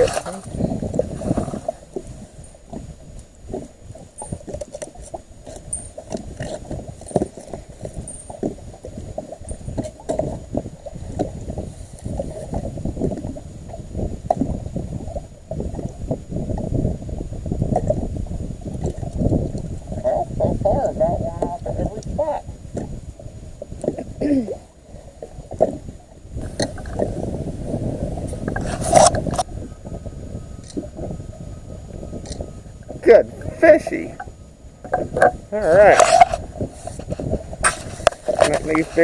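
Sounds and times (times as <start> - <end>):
waves sloshing against boat hull: 0.0 - 39.0.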